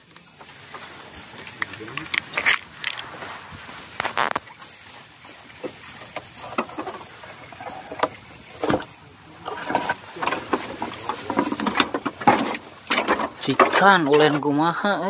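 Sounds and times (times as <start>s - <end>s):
footsteps on wooden planks: 0.0s - 8.9s, 9.6s - 14.4s.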